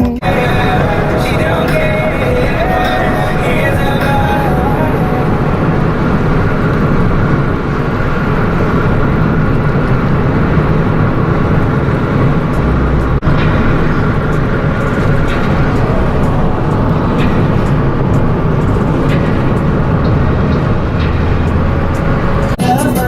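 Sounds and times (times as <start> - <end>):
moving car rumble: 0.2 - 23.0.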